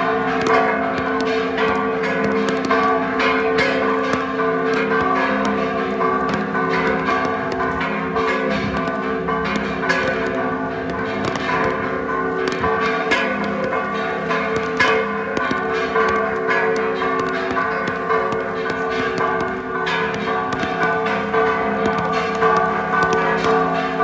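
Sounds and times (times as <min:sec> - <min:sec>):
church bells pealing: 0:00.0 - 0:24.0.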